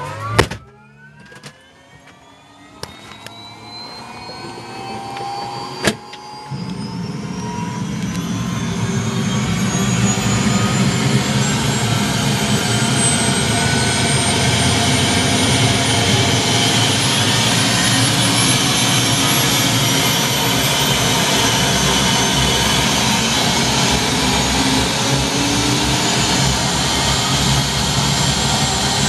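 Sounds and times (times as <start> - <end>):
helicopter engine and rotor roar: 0.0 - 29.0
high turbine whine: 0.0 - 29.0.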